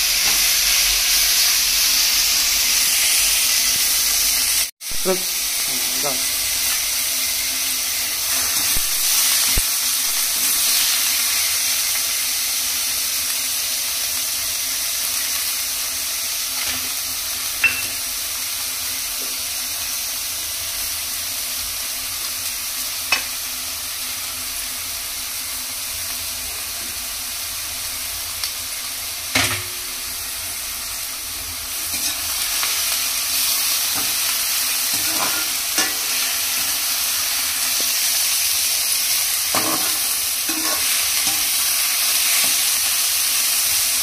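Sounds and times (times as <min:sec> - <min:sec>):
oil sizzling in a frying pan: 0:00.0 - 0:44.0.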